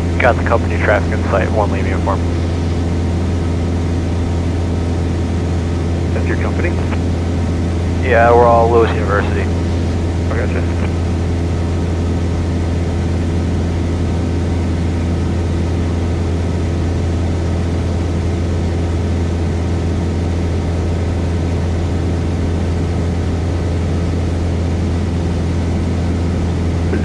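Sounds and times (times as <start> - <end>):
propeller plane engine drone: 0.0 - 27.0.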